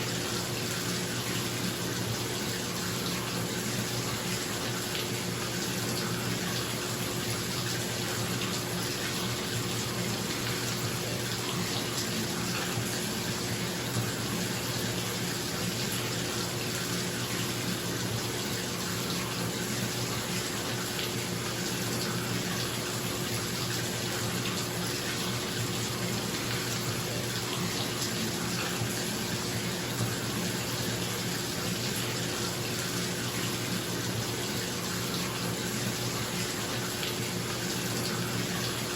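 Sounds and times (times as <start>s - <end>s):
tap water running into bathtub: 0.0s - 38.9s.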